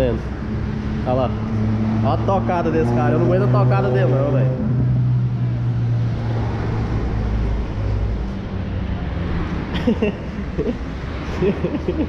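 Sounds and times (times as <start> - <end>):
road noise hiss: 0.0 - 12.0.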